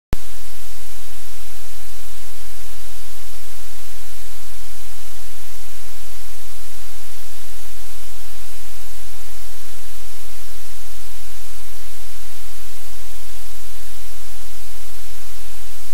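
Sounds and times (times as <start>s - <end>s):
static-like hiss: 0.2s - 15.9s.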